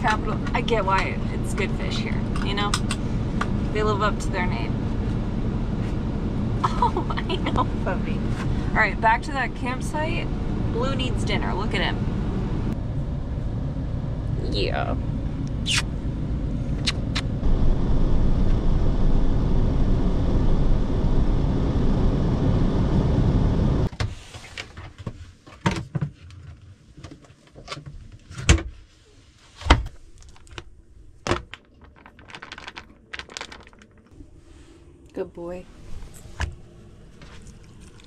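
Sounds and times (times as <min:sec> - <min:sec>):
road and engine rumble in van: 0:00.0 - 0:38.0.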